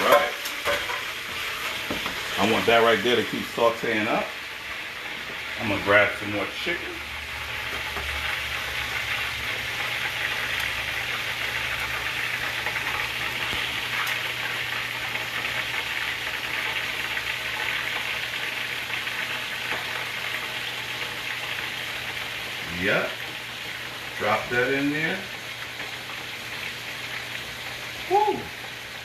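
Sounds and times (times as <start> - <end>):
stir-fry sizzling in hot oil: 0.0 - 29.0.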